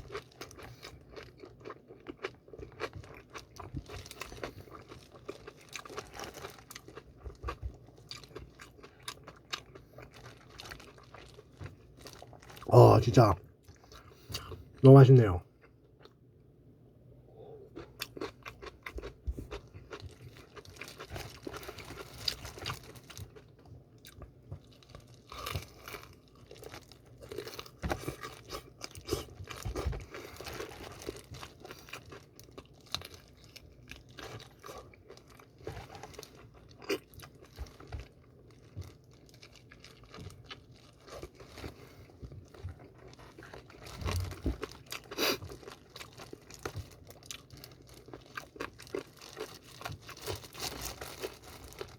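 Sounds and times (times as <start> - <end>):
chewing and crunching fried chicken: 0.0 - 16.3, 17.3 - 51.9.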